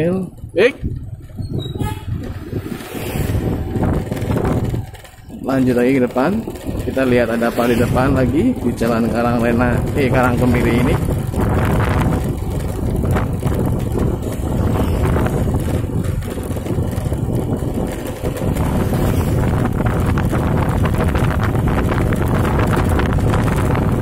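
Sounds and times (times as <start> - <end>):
vehicle engine and road noise: 0.0 - 24.0
wind rumbling on microphone: 0.0 - 24.0.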